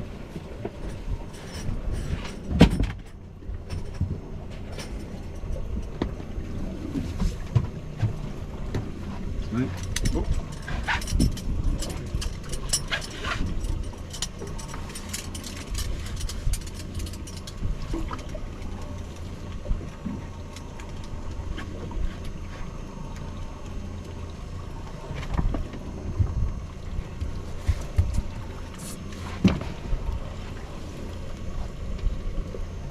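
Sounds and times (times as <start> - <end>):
low rumble: 0.0 - 32.9.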